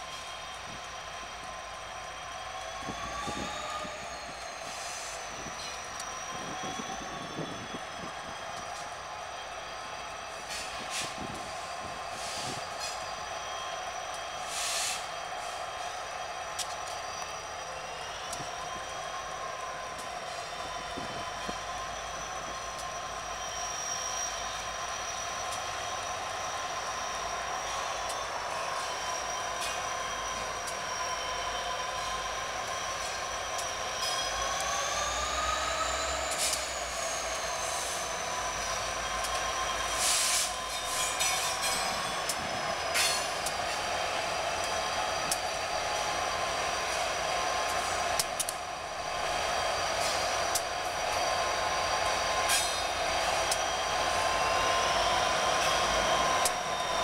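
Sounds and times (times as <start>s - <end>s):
diesel locomotive whine: 0.0s - 57.0s
train wheels clacking: 0.0s - 57.0s.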